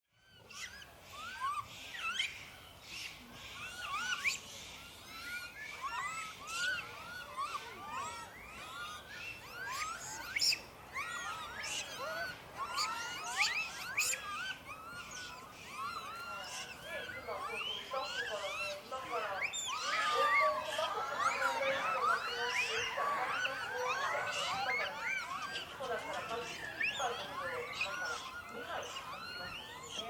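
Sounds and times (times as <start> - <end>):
animals chirping: 0.2 - 30.0.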